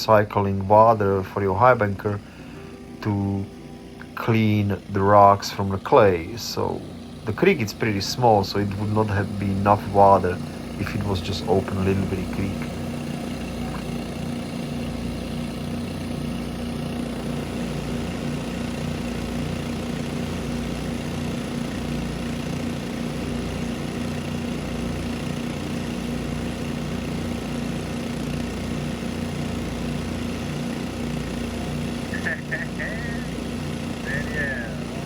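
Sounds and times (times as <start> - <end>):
small gasoline engine running: 0.0 - 35.0.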